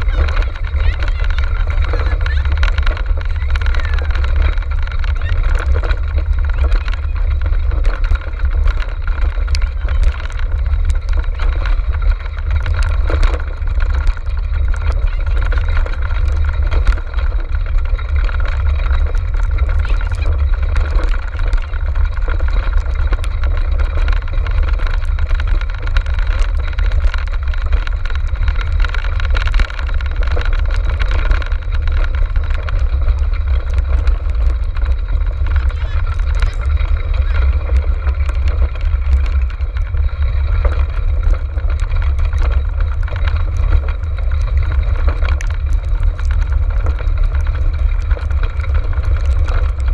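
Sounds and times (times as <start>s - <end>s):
low rumble of wind and vibration: 0.0s - 49.9s
sharp rattling clicks: 0.0s - 49.9s.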